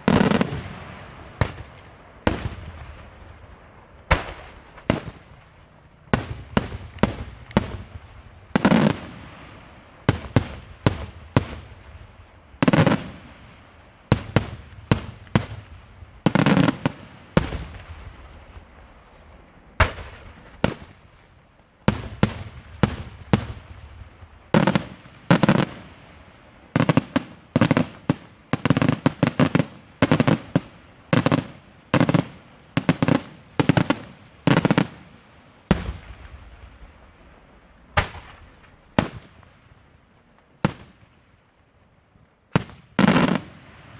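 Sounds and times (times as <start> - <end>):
fireworks bangs: 0.0 - 41.4, 42.5 - 43.9.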